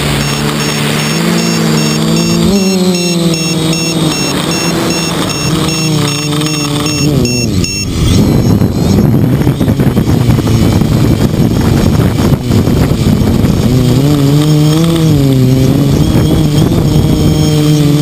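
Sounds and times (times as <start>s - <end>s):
quadcopter motors buzzing: 0.0s - 18.0s
wind rushing over microphone: 0.0s - 18.0s.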